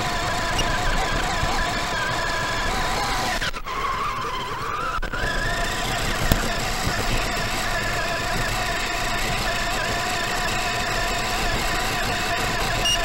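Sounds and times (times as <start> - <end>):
electric toy car motor whine: 0.0 - 13.0.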